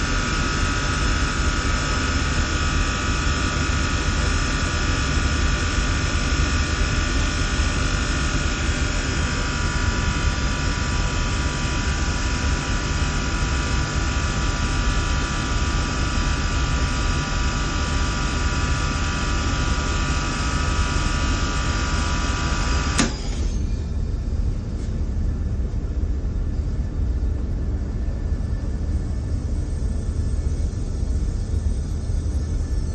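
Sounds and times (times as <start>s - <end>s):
air conditioning low rumble: 0.0s - 32.9s.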